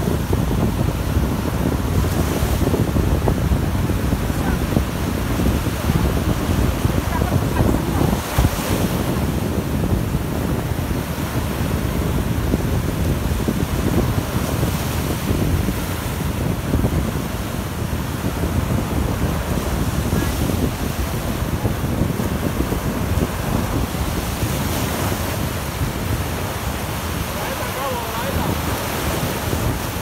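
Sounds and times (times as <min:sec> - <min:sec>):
sea surf breaking: 0:00.0 - 0:30.0
wind buffeting microphone: 0:00.0 - 0:30.0.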